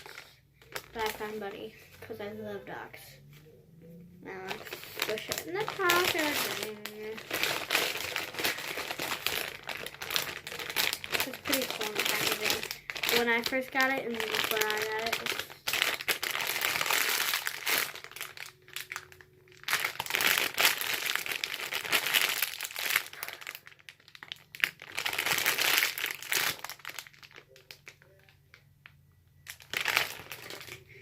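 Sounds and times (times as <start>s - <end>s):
crinkly packaging crackling: 0.0s - 3.3s, 4.2s - 31.0s.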